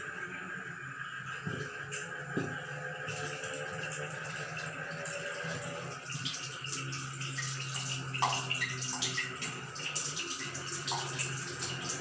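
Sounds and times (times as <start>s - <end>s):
water pipes humming: 0.0s - 12.0s.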